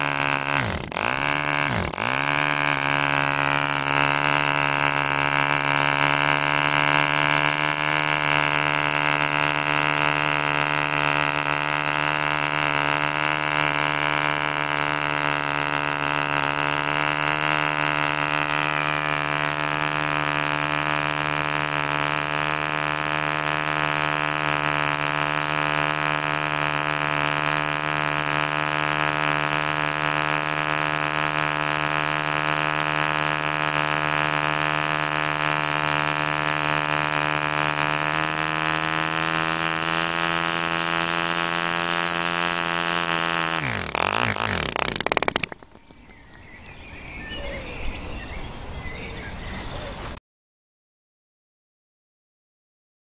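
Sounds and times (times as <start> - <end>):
model diesel engine running: 0.0 - 47.8.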